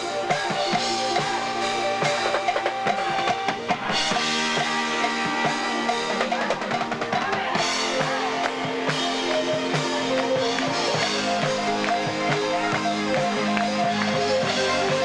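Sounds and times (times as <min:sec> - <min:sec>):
drum kit steady beat: 0:00.0 - 0:15.0
electric guitar: 0:00.0 - 0:15.0
live dance band playing: 0:00.0 - 0:15.0.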